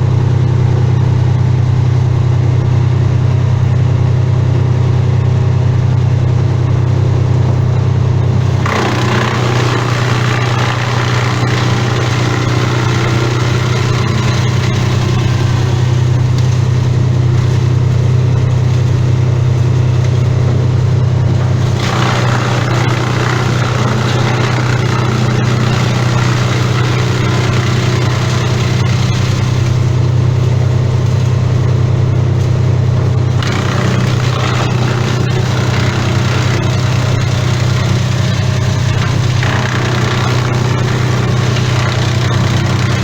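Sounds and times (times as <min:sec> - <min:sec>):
chainsaw engine running: 0:08.3 - 0:43.0.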